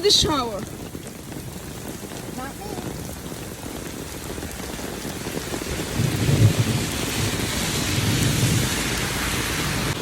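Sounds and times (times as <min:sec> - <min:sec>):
low rumble of thunder: 0:00.0 - 0:10.0
rain falling: 0:00.0 - 0:10.0.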